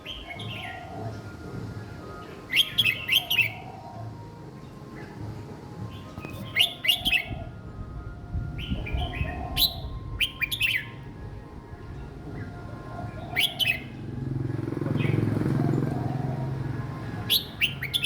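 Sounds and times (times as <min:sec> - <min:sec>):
bird singing song phrases: 0:00.0 - 0:18.0.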